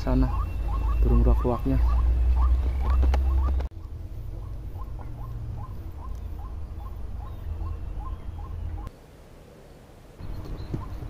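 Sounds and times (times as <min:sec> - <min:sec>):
bird calling rising notes: 0:00.0 - 0:08.9.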